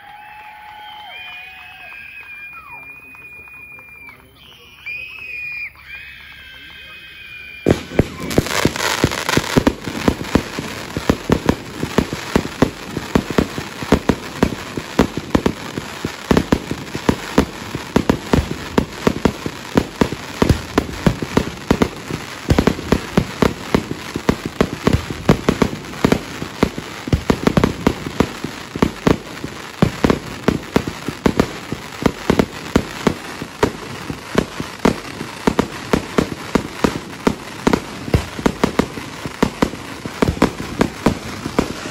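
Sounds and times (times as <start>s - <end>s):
firework hissing: 7.4s - 41.9s
firework bangs and cracks: 7.5s - 41.9s.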